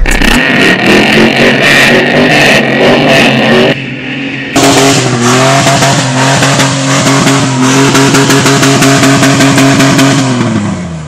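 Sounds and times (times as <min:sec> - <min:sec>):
engine revving with pops: 0:00.0 - 0:03.8, 0:04.6 - 0:10.8.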